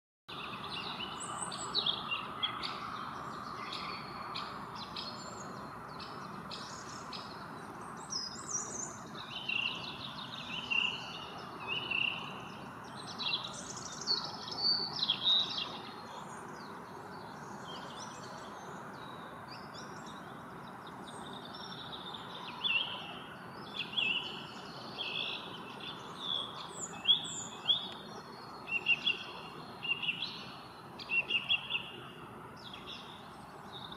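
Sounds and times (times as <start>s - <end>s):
songbirds chirping and trilling: 0.3s - 33.9s.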